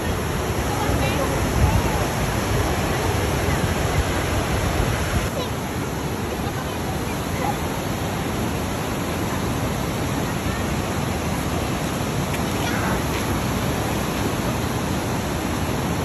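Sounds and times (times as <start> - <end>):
waterfall and rapids rushing: 0.0 - 16.0.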